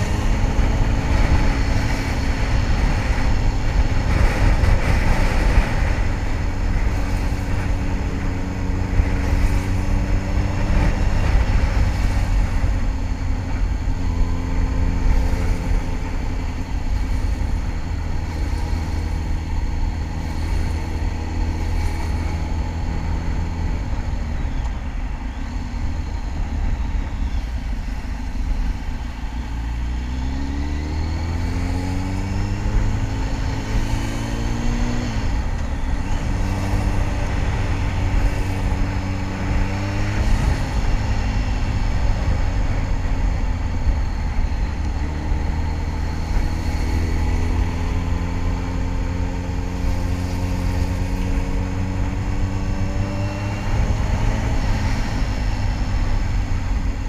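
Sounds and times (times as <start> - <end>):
motorcycle engine running: 0.0 - 57.0
wind rumble: 0.0 - 57.0.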